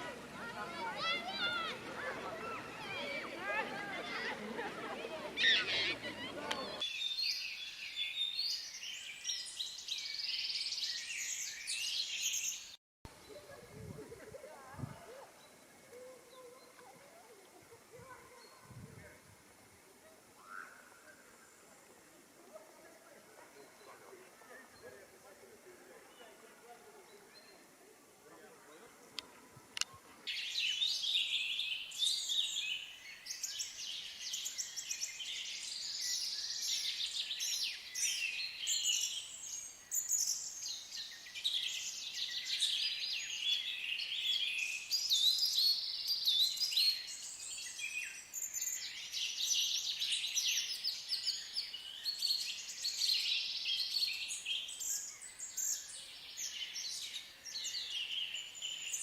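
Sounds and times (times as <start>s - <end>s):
songbirds chorus: 0.0s - 59.0s.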